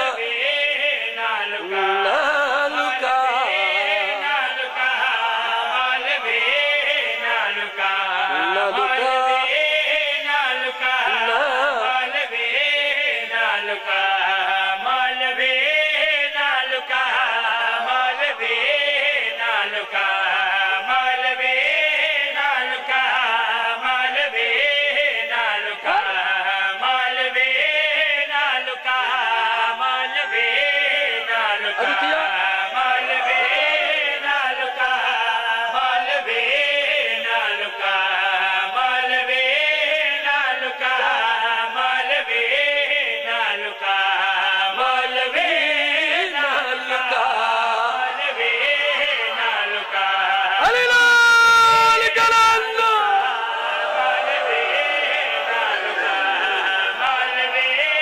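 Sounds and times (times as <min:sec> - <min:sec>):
men chanting into a microphone: 0:00.0 - 0:58.0.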